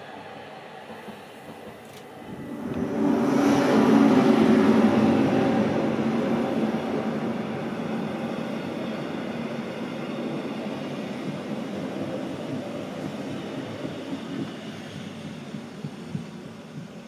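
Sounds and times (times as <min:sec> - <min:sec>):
electric locomotive hauling train: 0:00.0 - 0:17.0
train wheels on rails: 0:00.0 - 0:17.0.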